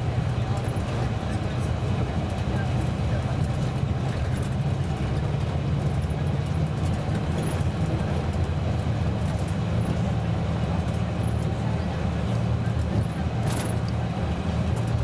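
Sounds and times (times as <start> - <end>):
bus diesel engine running: 0.0 - 15.0
road and tyre noise: 0.0 - 15.0.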